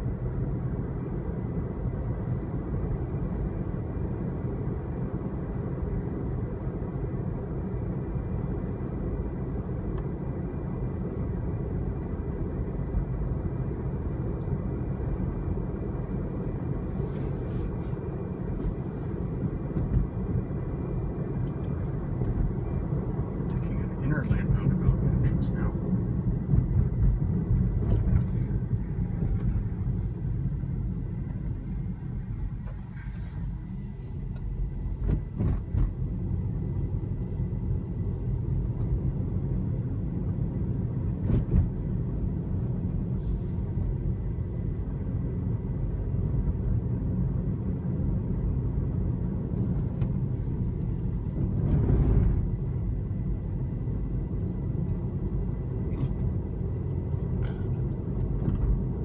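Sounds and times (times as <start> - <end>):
road and tyre noise in car: 0.0 - 59.0.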